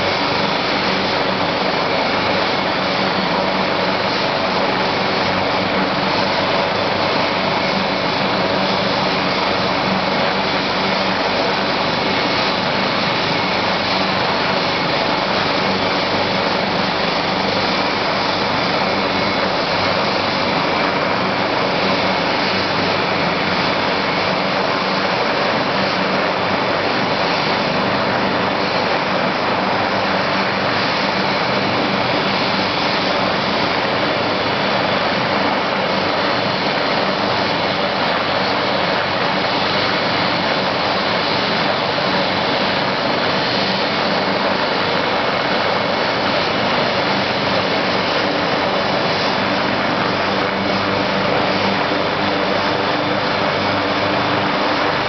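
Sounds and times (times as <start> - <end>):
helicopter running: 0.0 - 55.0
turbine whine: 0.0 - 55.0.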